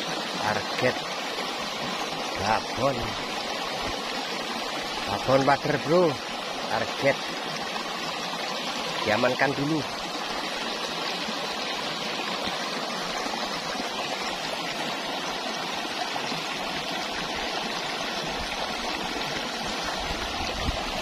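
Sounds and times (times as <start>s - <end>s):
river water flowing over rocks: 0.0s - 21.0s.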